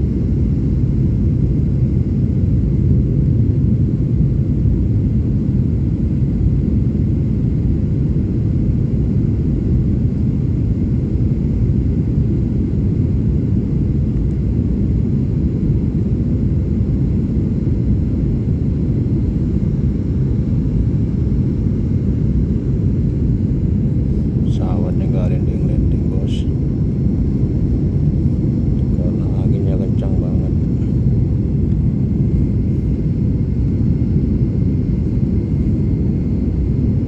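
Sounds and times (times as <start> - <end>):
airliner engines rumbling: 0.0 - 37.0.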